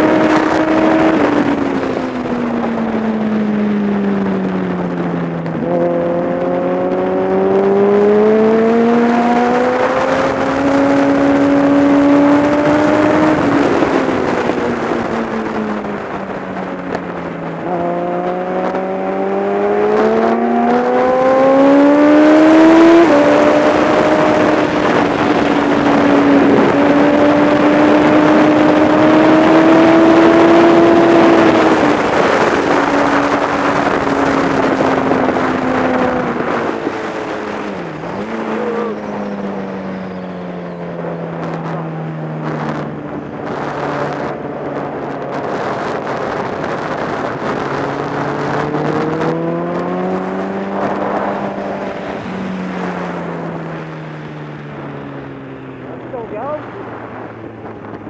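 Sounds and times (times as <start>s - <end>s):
motorcycle engine revving: 0.0s - 58.0s
wind rushing: 0.0s - 58.0s.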